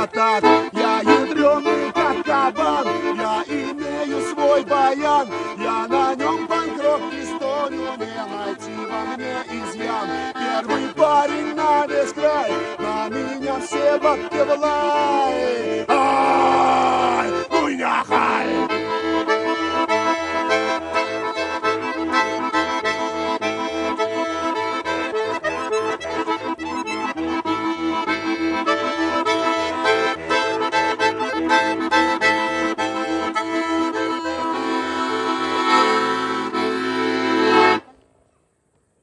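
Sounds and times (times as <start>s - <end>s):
button accordion playing: 0.0s - 37.9s.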